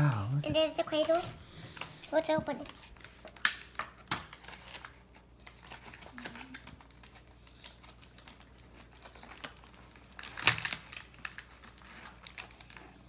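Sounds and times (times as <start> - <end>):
plastic packaging clicks and crinkles: 0.0 - 13.0.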